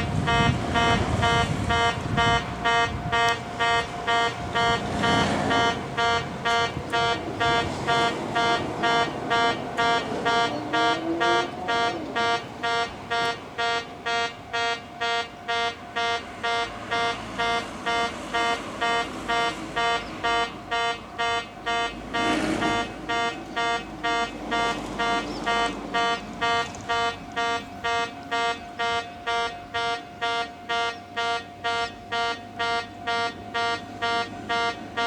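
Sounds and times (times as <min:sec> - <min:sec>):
level crossing electronic buzzer: 0:00.0 - 0:35.0.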